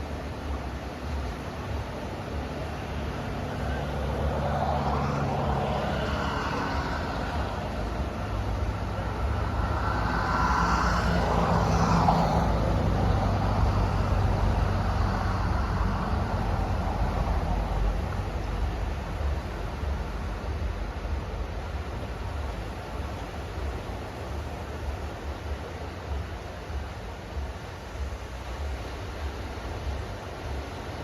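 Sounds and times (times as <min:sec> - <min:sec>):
cars passing by: 0:00.0 - 0:31.0
steady low traffic rumble: 0:00.0 - 0:31.0.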